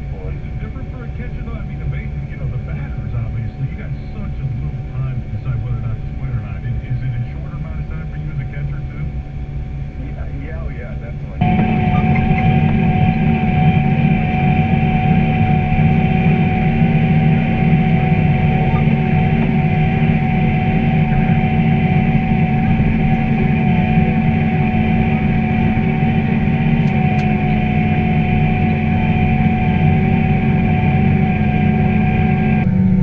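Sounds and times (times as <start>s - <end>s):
constant high whine: 0.0s - 33.0s
tractor diesel engine running: 0.0s - 33.0s.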